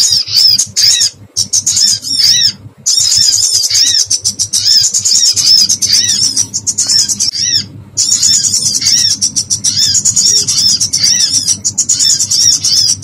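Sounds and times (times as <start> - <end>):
small bird distress calls: 0.0 - 13.0.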